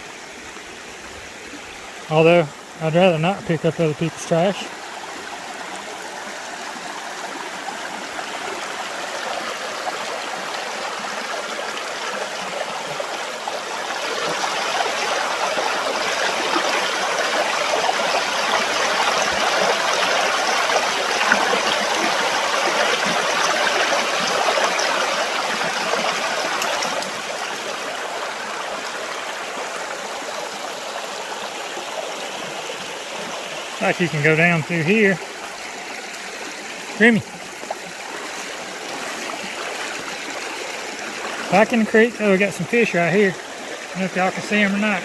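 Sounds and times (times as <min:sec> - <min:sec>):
creek water rushing: 0:00.0 - 0:45.0.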